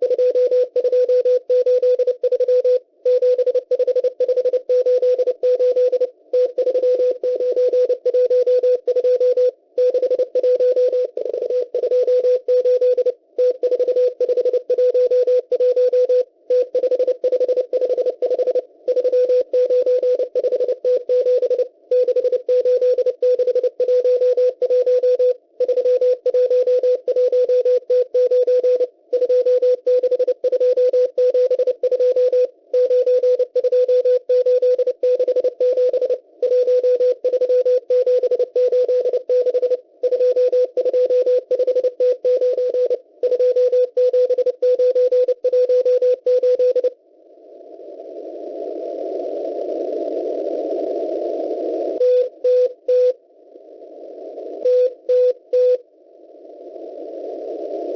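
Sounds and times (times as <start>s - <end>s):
morse code tone: 0.0s - 47.0s, 52.0s - 53.2s, 54.6s - 55.8s
receiver hiss: 0.0s - 57.9s.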